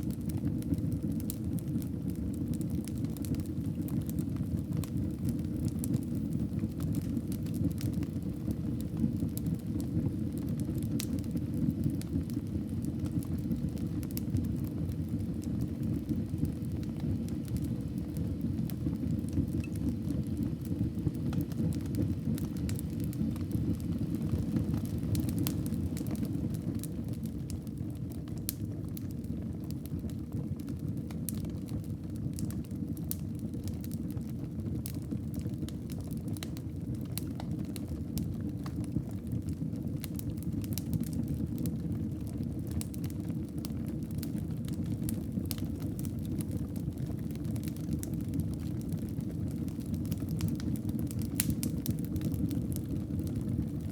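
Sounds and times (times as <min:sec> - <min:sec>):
fire crackling and popping: 0:00.0 - 0:53.9
low rumble of flames: 0:00.0 - 0:53.9.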